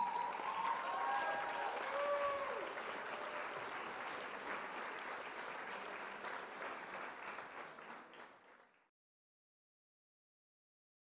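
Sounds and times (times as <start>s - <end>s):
applause: 0.0s - 8.9s.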